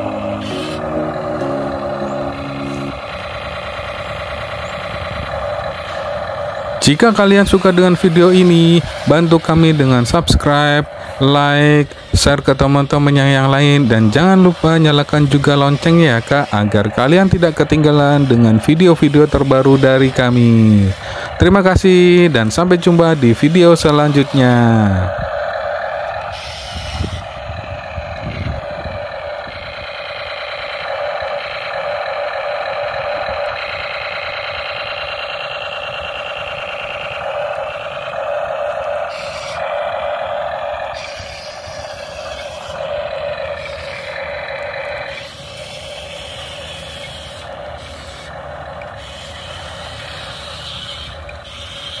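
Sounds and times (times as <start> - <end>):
tinny toy tank engine sound effect: 0.0 - 52.0.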